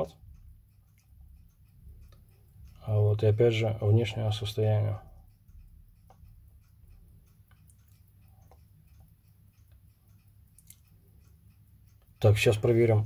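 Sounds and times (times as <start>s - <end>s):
wristwatch ticking: 0.0s - 13.0s.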